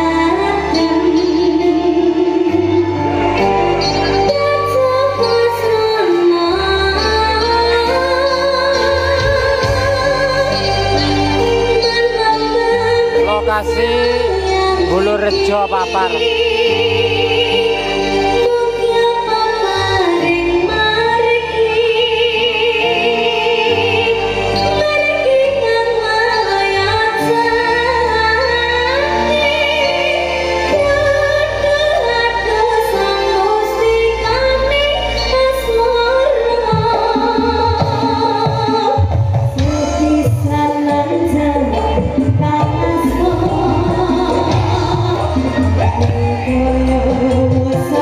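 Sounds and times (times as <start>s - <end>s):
gamelan and band backing: 0.0s - 48.0s
woman singing with vibrato: 0.0s - 48.0s.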